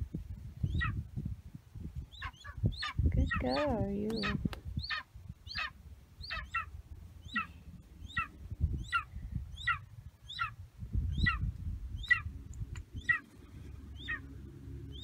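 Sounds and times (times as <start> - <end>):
eagle chirping: 0.6 - 1.0, 2.0 - 15.0.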